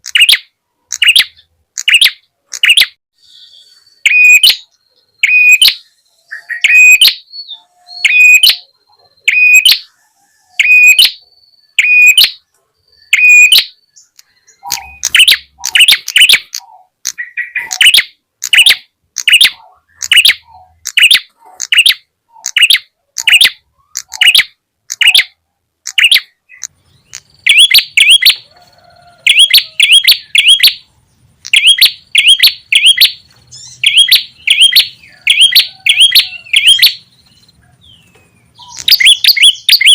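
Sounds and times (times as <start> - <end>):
small bird chirping sharply: 0.0 - 39.9.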